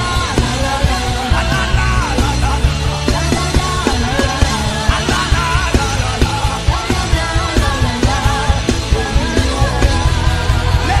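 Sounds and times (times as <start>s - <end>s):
voices singing and crying out: 0.0s - 11.0s
worship band music: 0.0s - 11.0s.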